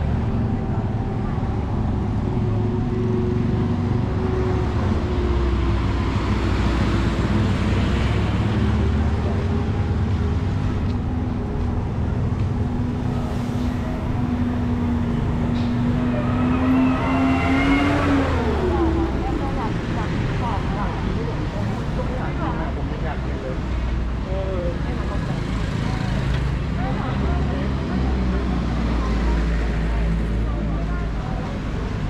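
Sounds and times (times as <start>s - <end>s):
low engine rumble: 0.0s - 32.0s
vehicles passing: 0.0s - 32.0s.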